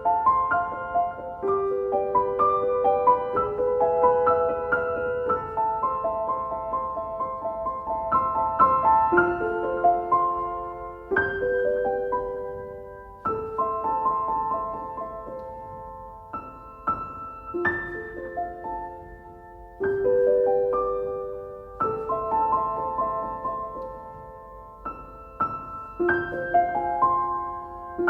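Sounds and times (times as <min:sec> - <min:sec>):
slow solo piano: 0:00.0 - 0:28.0.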